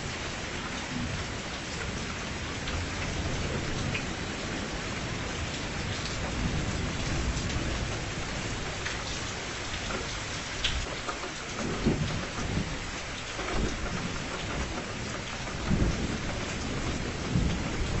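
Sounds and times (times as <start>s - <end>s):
steady rain: 0.0s - 18.0s
low thunder rumbles: 0.9s - 9.6s, 11.6s - 12.9s, 13.6s - 18.0s.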